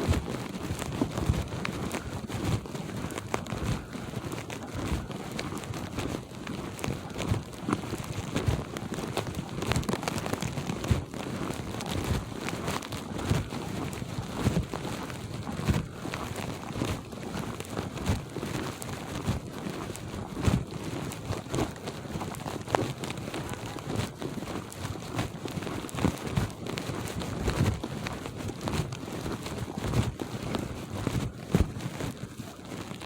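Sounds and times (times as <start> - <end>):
footsteps crunching through snow: 0.0 - 33.0.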